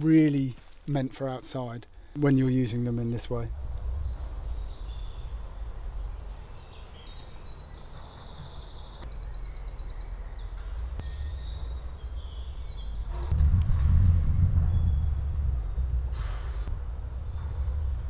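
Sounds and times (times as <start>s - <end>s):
birds singing: 0.0s - 13.4s, 14.2s - 15.2s
steady low rumble: 2.2s - 8.1s, 9.0s - 18.0s.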